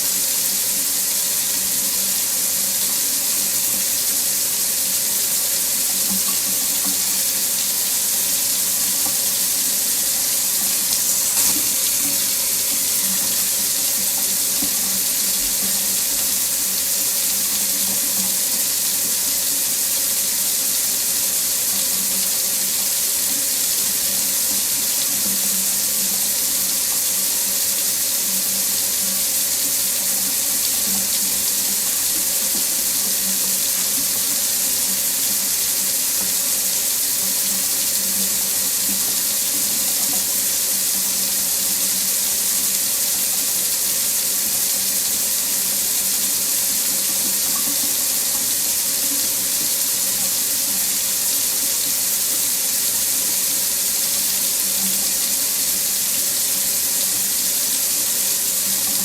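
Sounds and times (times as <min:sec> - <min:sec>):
water faucet running: 0:00.0 - 0:59.0.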